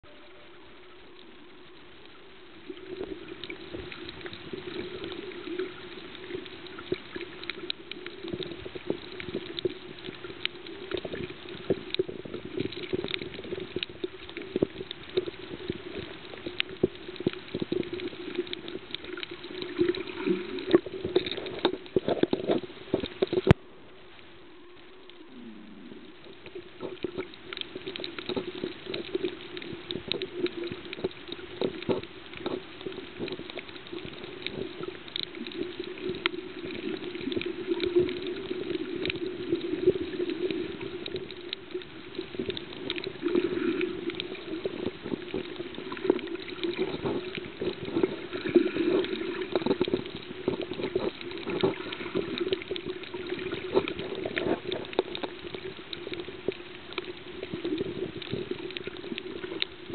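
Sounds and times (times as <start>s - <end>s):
crackling clicks: 0.1s - 59.9s.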